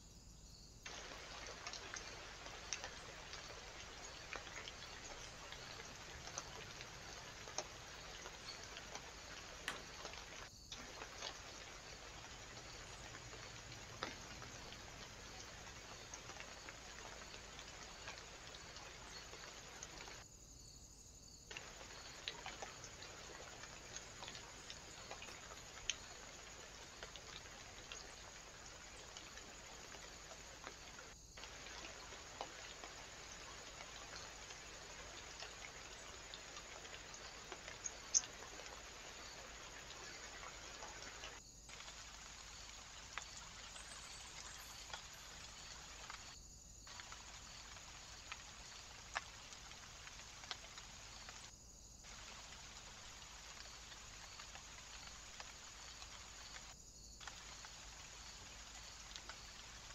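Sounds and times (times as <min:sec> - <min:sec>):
faint ticks: 0:00.8 - 0:20.4, 0:21.5 - 0:59.9.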